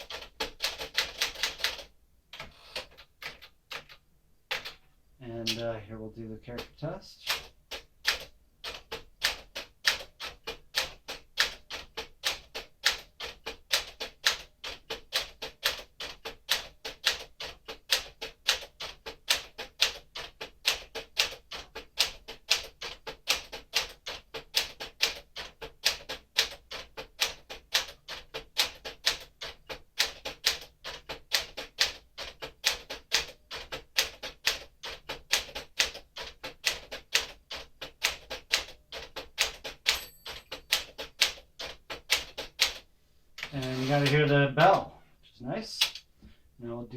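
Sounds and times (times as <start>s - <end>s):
manual typewriter typing: 0.0s - 4.8s, 5.4s - 5.7s, 6.4s - 44.4s.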